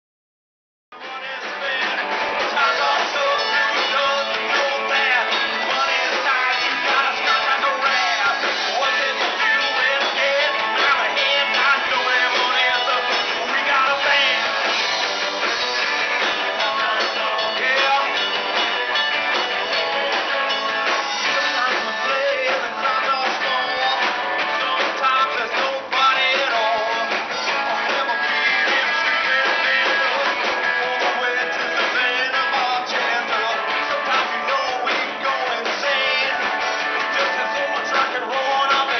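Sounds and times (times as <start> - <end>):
live rock band playing: 0.9 - 38.9.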